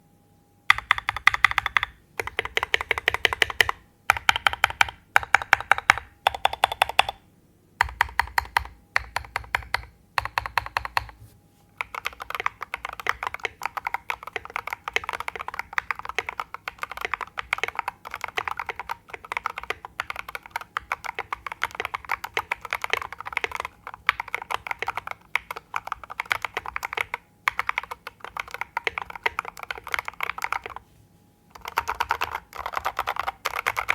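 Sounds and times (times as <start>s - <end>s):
mechanical keyboard typing: 0.7s - 7.2s, 7.8s - 11.2s, 11.8s - 30.8s, 31.5s - 33.9s.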